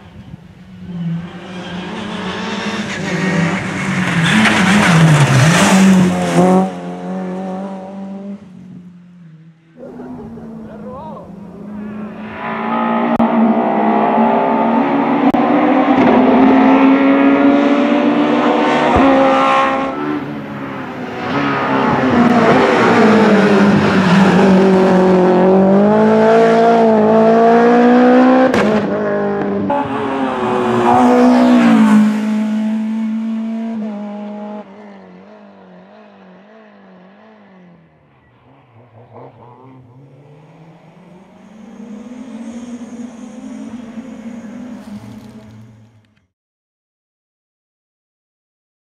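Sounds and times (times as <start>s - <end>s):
rally car engine at high revs: 0.8s - 45.9s.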